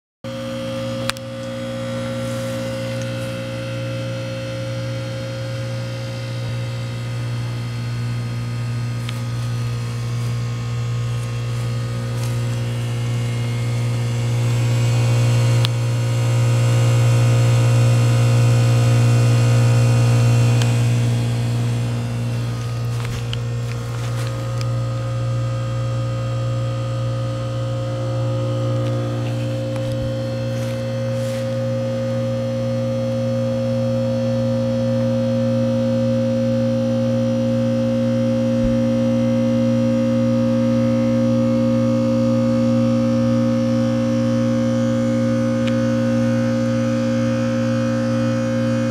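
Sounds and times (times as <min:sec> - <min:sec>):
heat pump electrical hum: 0:00.2 - 0:48.9.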